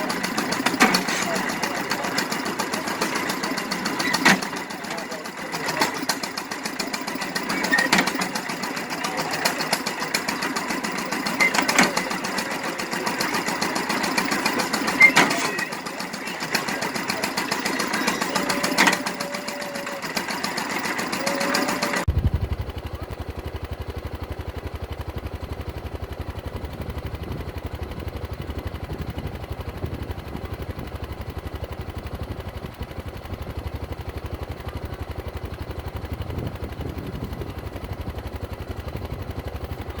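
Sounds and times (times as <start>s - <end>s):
hay baler running: 0.0s - 40.0s.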